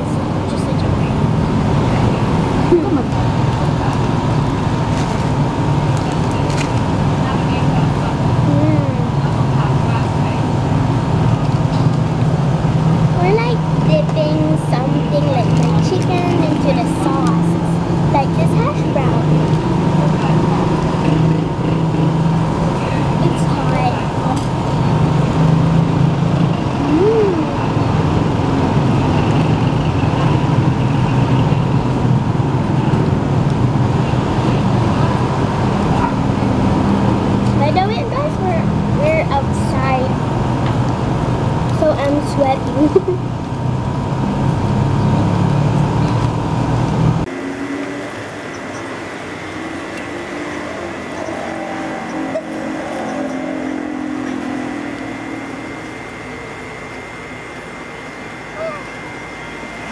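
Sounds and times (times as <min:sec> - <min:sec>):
engine running nearby: 0:00.0 - 0:59.9
traffic rumble: 0:00.0 - 0:59.9.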